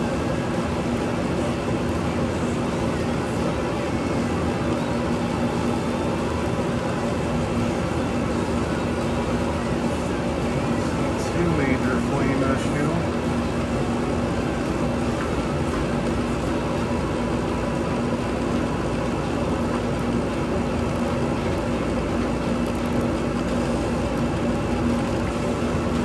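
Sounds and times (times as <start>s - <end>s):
gas furnace running: 0.0s - 26.0s.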